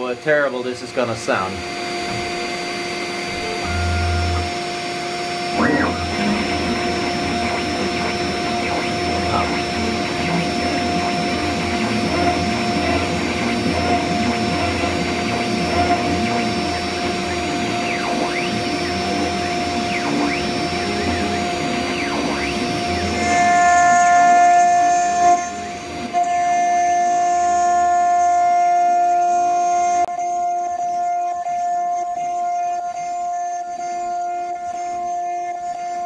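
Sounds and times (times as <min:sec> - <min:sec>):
router spindle whine: 0:00.0 - 0:36.0
cutter cutting metal: 0:01.0 - 0:30.1.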